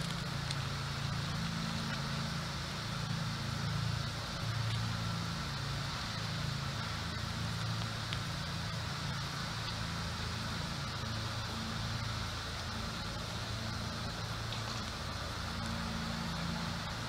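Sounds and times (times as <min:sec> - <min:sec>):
constant hiss: 0:00.0 - 0:17.0
motor drone: 0:00.0 - 0:17.0.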